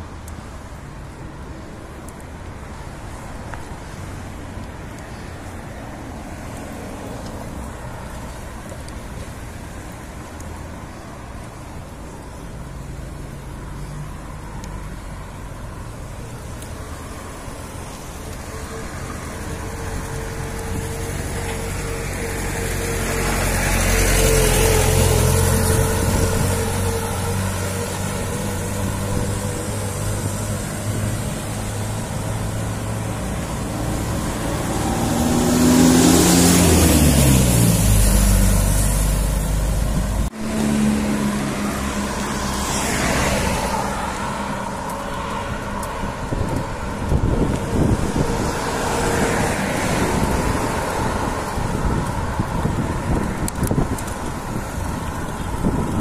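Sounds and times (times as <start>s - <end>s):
vehicles passing close by: 0.0s - 56.0s.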